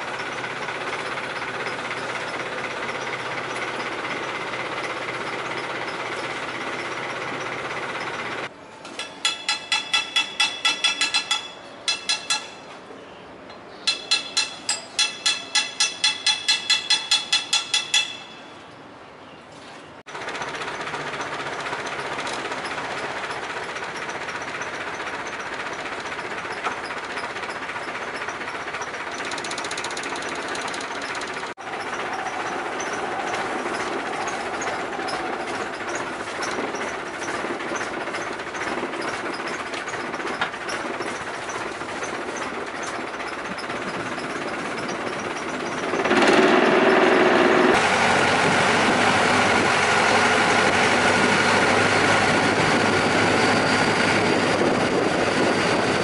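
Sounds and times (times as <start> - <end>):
fast ticking rattle: 0.0 - 12.7, 13.9 - 18.6, 20.1 - 49.7
boat engine running: 0.0 - 12.9, 20.1 - 56.0
hammer striking metal propeller: 0.0 - 12.9, 13.5 - 18.7, 20.4 - 50.0.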